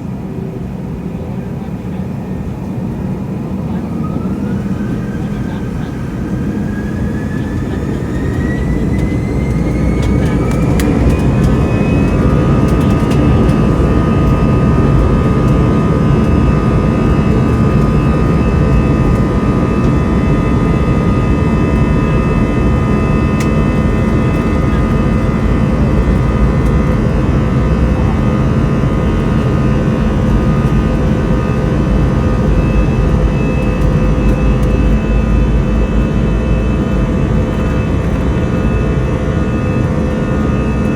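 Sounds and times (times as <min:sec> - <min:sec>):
jet engines spooling up: 0:02.1 - 0:40.9.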